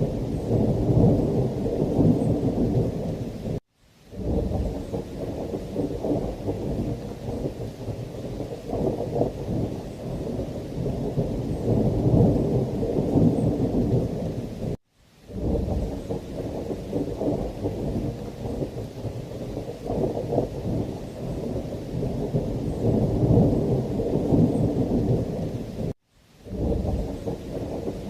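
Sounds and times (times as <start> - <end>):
heavy rain: 0.0 - 28.0
rolling thunder: 0.0 - 28.0.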